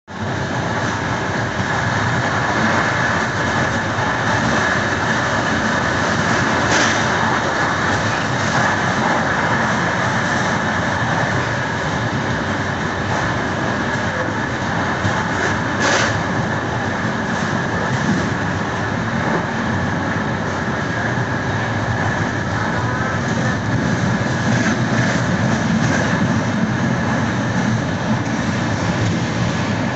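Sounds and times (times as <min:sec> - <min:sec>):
train running on rails: 0:00.0 - 0:29.9.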